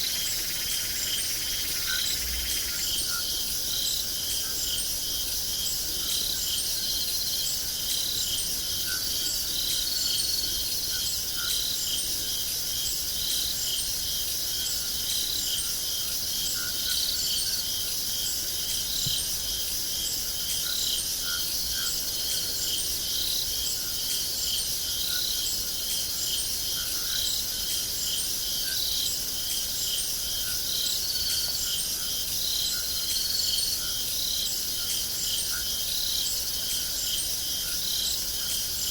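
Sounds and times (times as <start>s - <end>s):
cricket chirping: 0.0s - 38.9s
high-pitched insect hiss: 0.0s - 38.9s.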